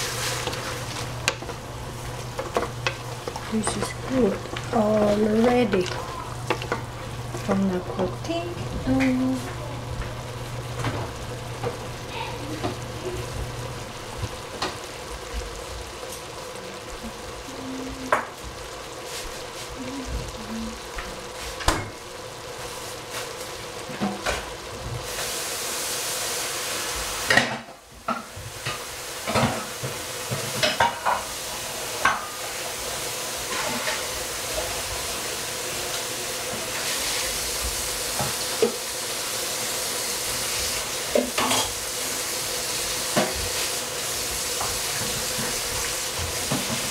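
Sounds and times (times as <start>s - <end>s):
vegetables sizzling in a pan: 0.0s - 46.9s.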